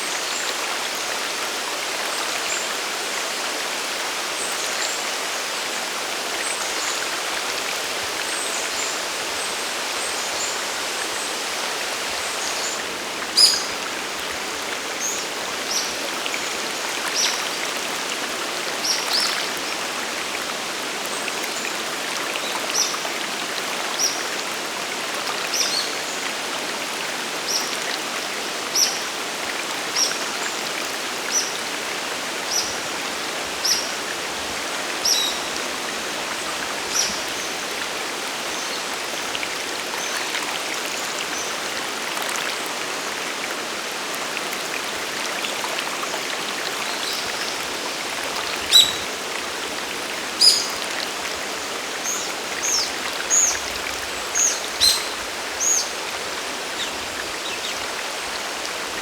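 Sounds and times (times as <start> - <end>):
waterfall and stream rushing: 0.0 - 59.0.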